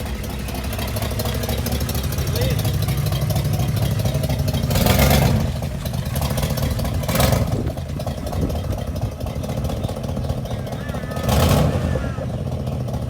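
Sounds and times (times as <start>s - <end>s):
engine running with surges: 0.0s - 13.0s.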